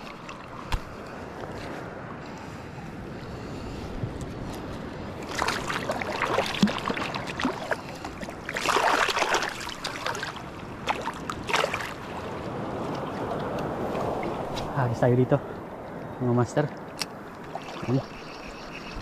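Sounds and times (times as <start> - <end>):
water splashing and sloshing: 0.0 - 2.6, 3.6 - 19.0
rush of waves: 0.0 - 19.0.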